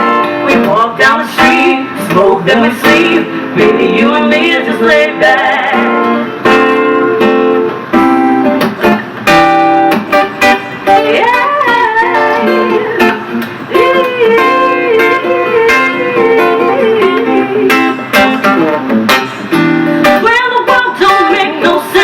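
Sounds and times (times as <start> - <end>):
bending lead guitar line: 0.0 - 22.0
strummed guitar chords: 0.0 - 22.0.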